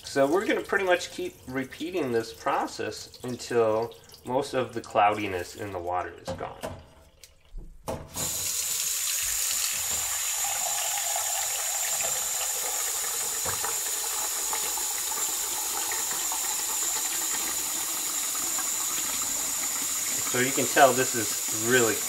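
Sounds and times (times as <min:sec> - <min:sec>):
faucet water running into container: 0:00.0 - 0:06.3, 0:08.2 - 0:22.0.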